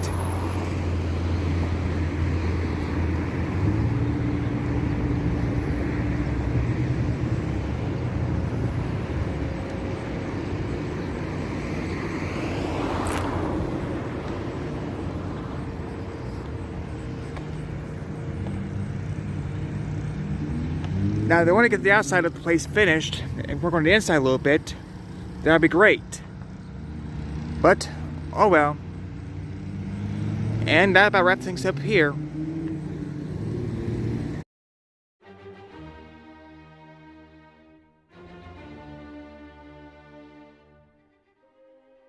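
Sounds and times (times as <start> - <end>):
traffic noise: 0.0 - 34.4, 35.3 - 41.8
vehicle passing close: 0.0 - 34.4.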